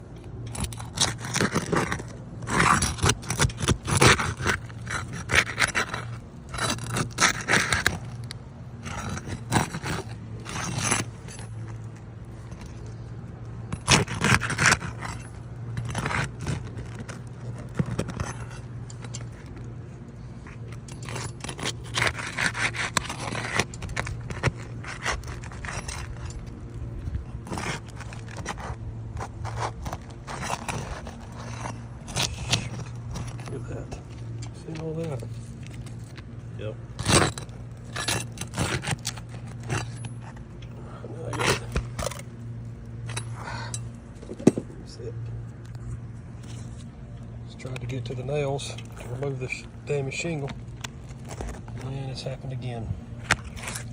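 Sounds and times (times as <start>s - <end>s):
steady low hum: 0.0s - 53.9s
tool scraping roof shingles: 0.3s - 44.6s, 47.9s - 53.9s.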